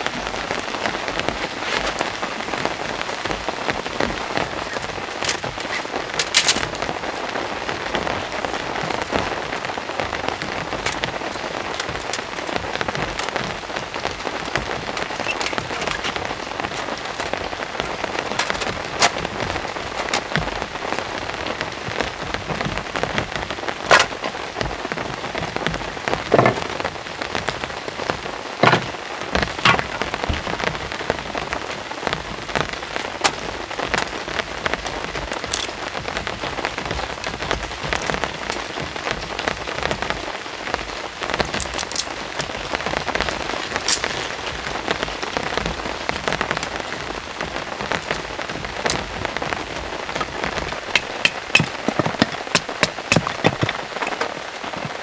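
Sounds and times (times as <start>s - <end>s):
loud single raindrops: 0.0s - 55.0s
steady rain falling: 0.0s - 55.0s.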